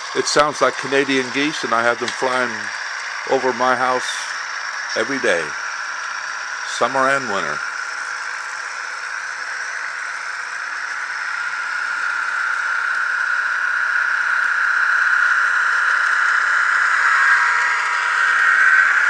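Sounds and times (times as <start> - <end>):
raspy engine hiss from small speaker: 0.0 - 19.0.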